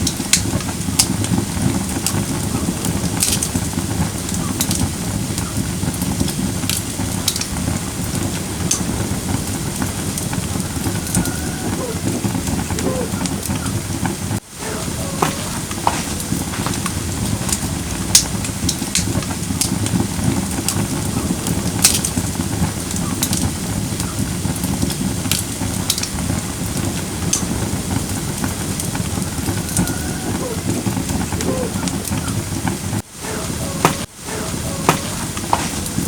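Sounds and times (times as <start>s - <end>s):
flames rushing: 0.0s - 36.0s
wood crackling and popping: 0.0s - 36.0s.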